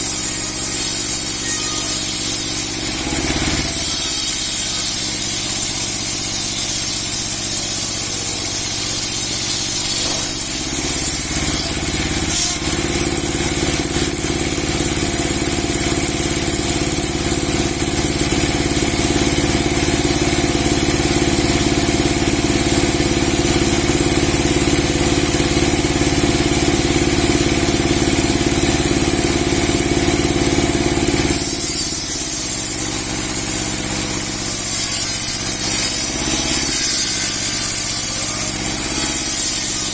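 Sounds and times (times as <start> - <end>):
sawmill blade running: 0.0 - 39.9.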